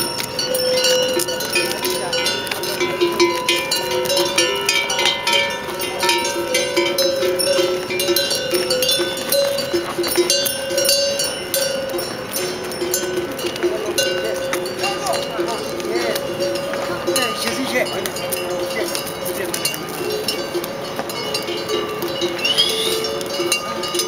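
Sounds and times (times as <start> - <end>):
animal neck bells clanging: 0.0 - 24.0.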